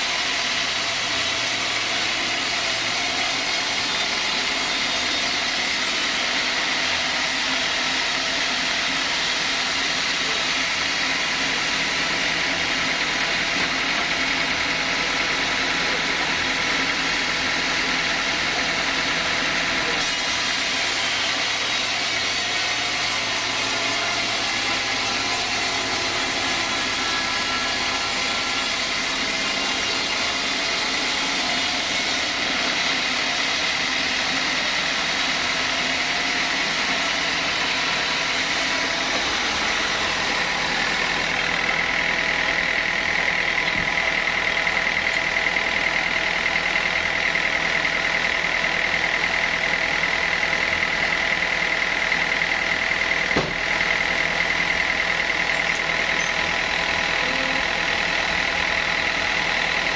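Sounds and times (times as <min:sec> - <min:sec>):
high machine whine: 0:00.0 - 0:59.9
sawmill saw cutting wood: 0:00.0 - 0:59.9.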